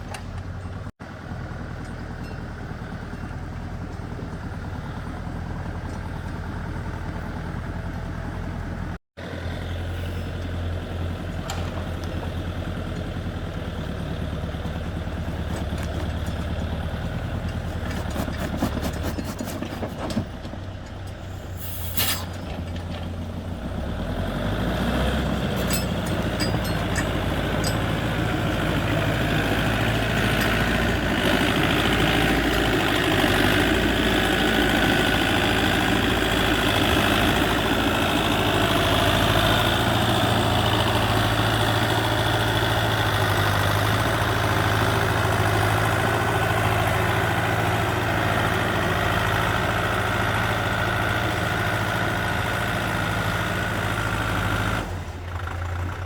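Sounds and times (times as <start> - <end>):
heavy machine engine droning: 0.0 - 56.0.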